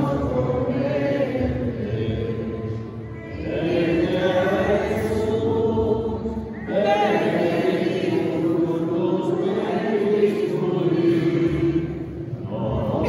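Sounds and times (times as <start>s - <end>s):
group singing a slow hymn: 0.0s - 13.0s.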